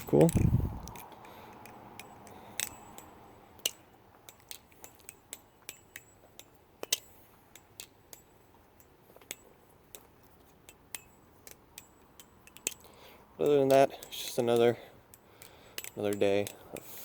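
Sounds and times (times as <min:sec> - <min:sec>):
butterfly knife clicking: 0:00.0 - 0:17.0.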